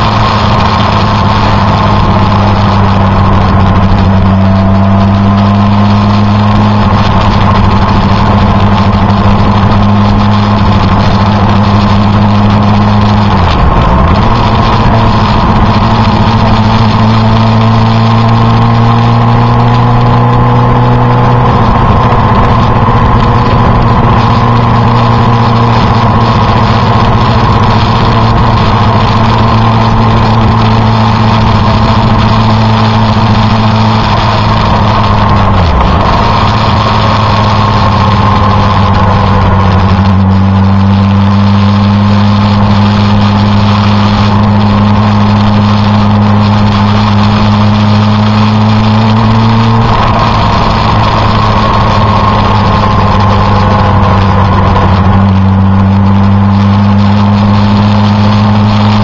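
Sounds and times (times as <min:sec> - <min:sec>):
vehicle engine running: 0:00.0 - 0:59.0
wind and road noise: 0:00.0 - 0:59.0.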